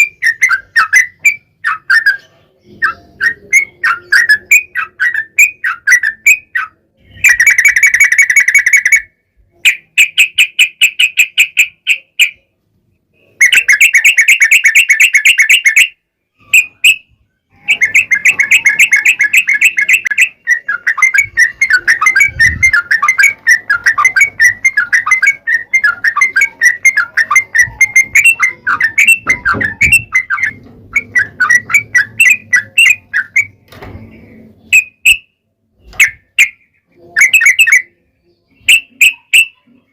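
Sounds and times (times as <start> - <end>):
bird singing rapid trills: 0.0 - 12.5, 13.2 - 33.7.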